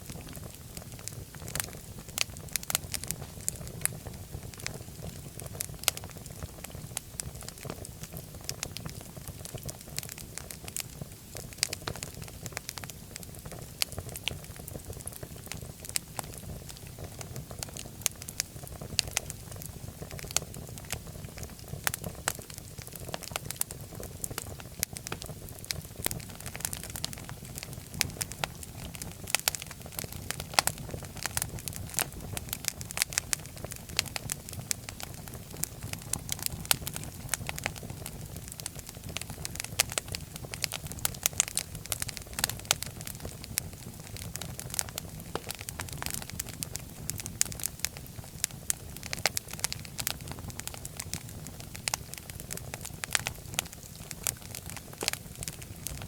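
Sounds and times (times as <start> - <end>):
fire crackling and popping: 0.0 - 56.0
low rumble of flame: 0.0 - 56.0.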